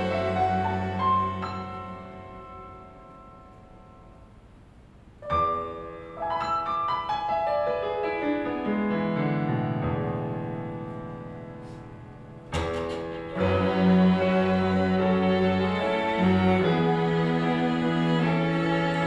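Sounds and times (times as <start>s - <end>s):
classical-style piano: 0.0s - 19.0s.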